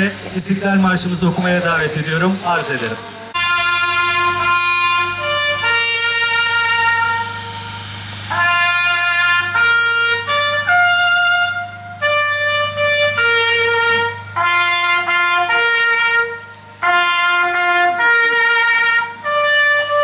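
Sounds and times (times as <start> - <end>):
solo trumpet slow melody: 3.0 - 20.0.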